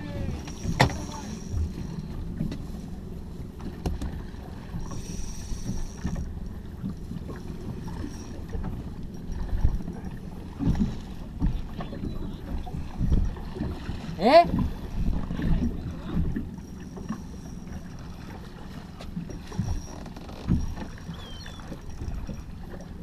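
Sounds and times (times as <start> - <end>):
water slapping against boat hull: 0.0 - 5.0, 5.6 - 17.2, 17.9 - 23.0
wind: 0.0 - 23.0.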